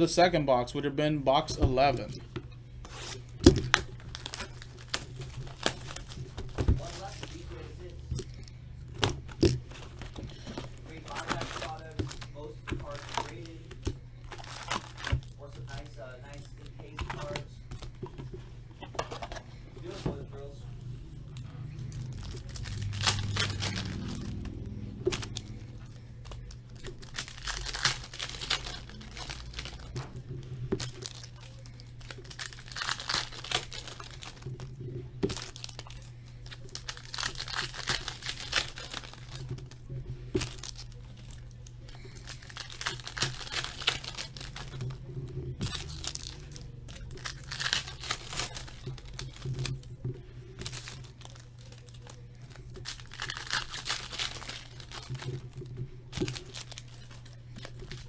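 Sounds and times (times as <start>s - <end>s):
low hum: 2.1s - 58.0s
foil wrappers tearing and crinkling: 2.8s - 17.9s, 21.2s - 58.0s.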